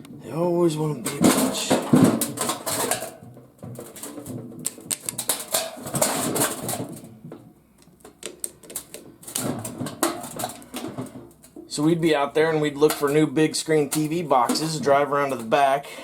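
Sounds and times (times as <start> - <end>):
hand tools clicking and rattling: 1.0 - 7.2, 7.8 - 15.7.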